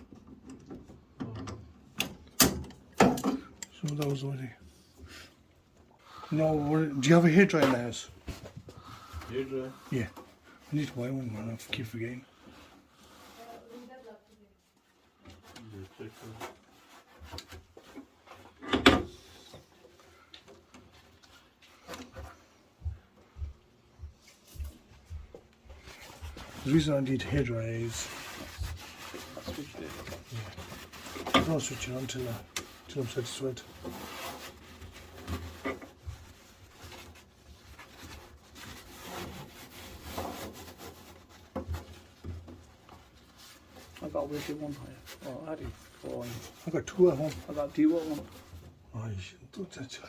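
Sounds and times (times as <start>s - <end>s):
handling noise rubbing and scraping: 2.8s - 23.4s, 24.2s - 50.0s.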